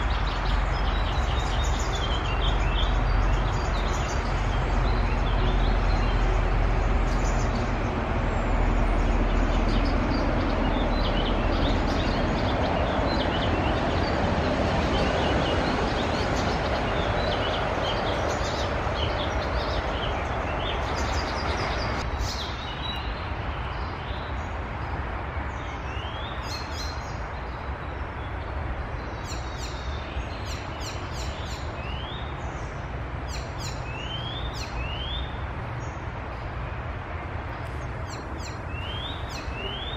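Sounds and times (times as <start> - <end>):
woodland birdsong: 0.0 - 39.9.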